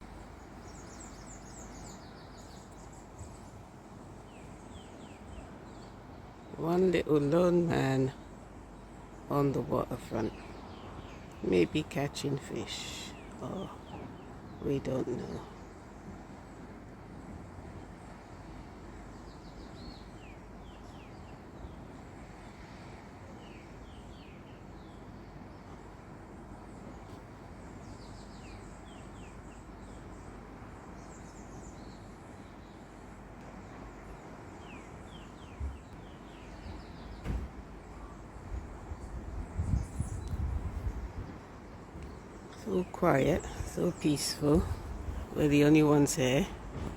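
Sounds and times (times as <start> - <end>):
low background rush: 0.0 - 46.9
small birds chirping: 0.0 - 46.9
steady outdoor hiss: 0.0 - 46.9.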